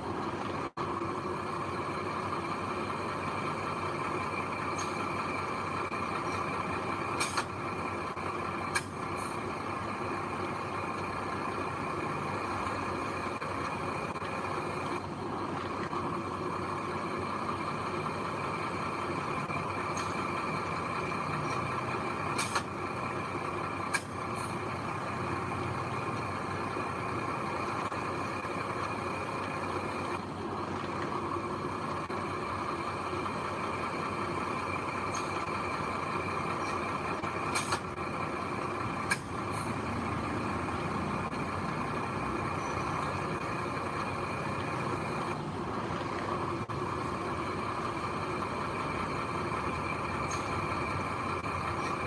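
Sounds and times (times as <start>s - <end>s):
heavy machinery engines running: 0.0s - 52.0s.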